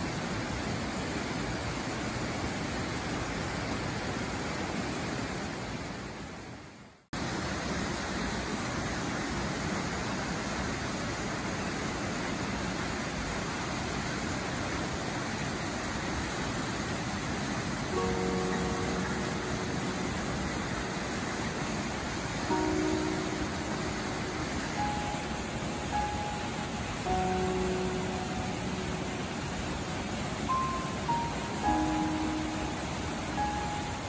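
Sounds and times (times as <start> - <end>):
waterfall rushing into pool: 0.0 - 34.0.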